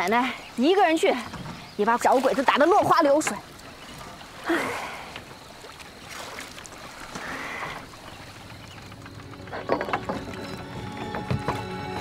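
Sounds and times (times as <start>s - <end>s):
oar swishing in water: 0.0s - 12.0s.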